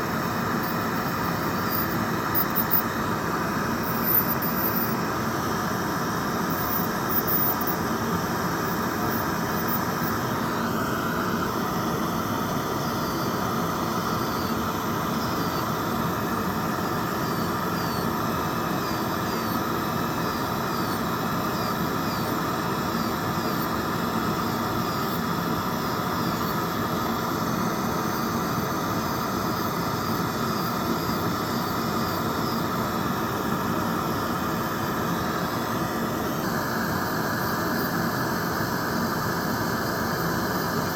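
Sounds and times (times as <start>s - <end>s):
electric nail drill whining: 0.0s - 40.9s
steady hiss: 0.0s - 40.9s.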